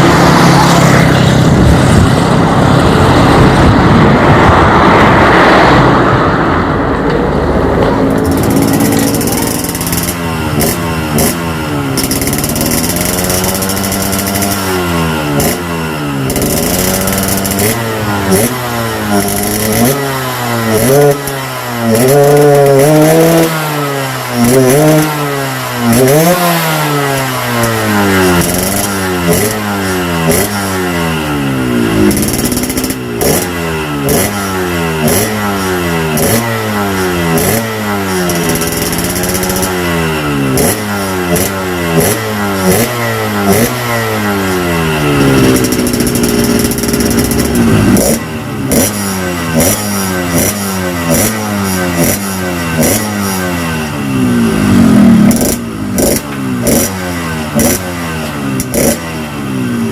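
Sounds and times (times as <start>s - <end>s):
two-stroke motorcycle engine revving: 0.0s - 6.1s, 7.0s - 59.9s.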